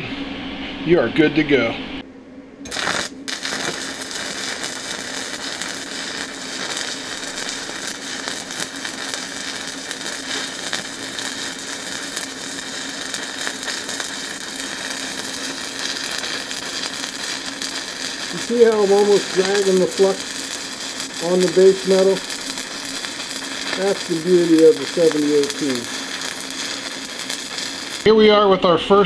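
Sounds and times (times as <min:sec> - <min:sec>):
welding arc crackling: 0:02.6 - 0:28.2.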